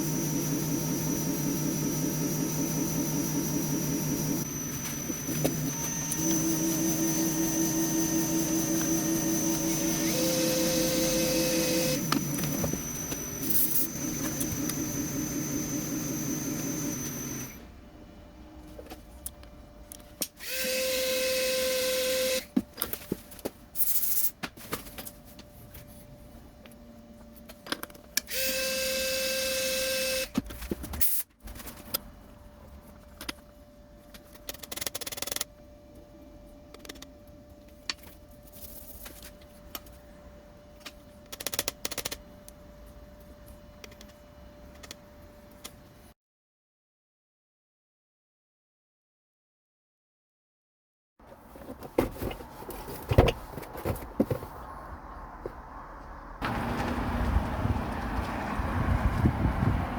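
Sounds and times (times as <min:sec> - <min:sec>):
workshop machine running: 0:00.0 - 0:46.1, 0:56.4 - 0:58.3.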